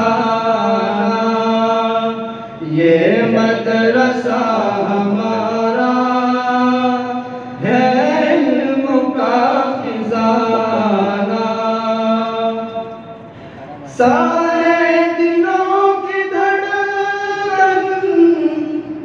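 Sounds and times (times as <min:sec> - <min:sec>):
person singing unaccompanied: 0:00.0 - 0:12.9, 0:13.9 - 0:19.0.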